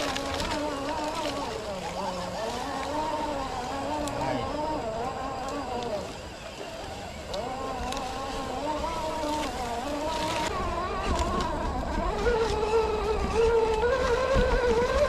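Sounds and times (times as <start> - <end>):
rc car electric motor whining: 0.0 - 15.0.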